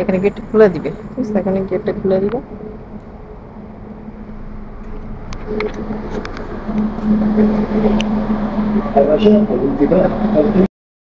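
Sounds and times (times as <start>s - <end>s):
train humming: 0.0s - 10.7s.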